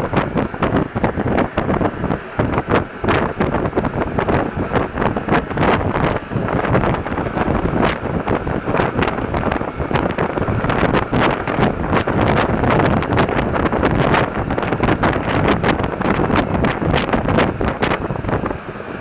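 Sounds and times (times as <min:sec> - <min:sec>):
train rattles and clicks: 0:00.0 - 0:18.6
metro train rumbling: 0:00.0 - 0:19.0.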